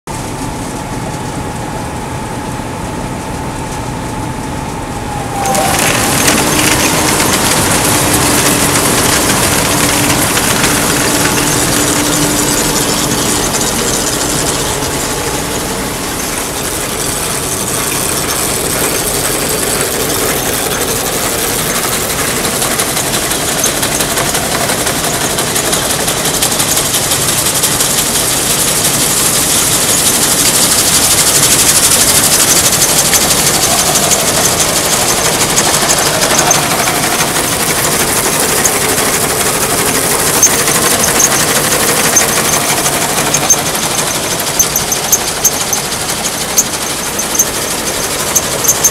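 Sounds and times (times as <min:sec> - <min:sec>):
combine machinery drone: 0:00.1 - 0:48.9
sharp clacks: 0:05.4 - 0:48.9.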